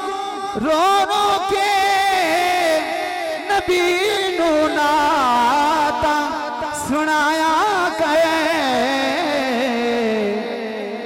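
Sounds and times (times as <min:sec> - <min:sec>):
man singing through loudspeakers: 0:00.0 - 0:11.0.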